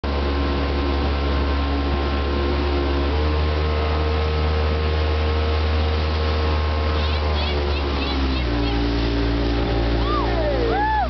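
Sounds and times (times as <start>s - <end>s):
motorboat engine running: 0.0s - 11.0s
rushing water: 0.0s - 11.0s.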